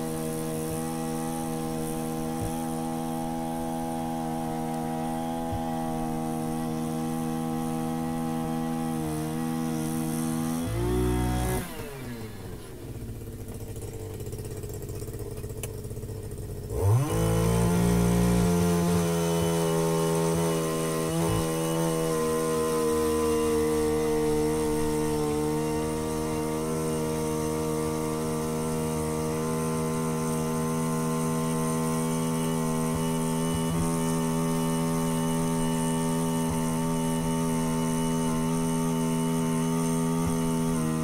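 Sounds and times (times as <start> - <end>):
ice auger engine revving: 0.0 - 41.0.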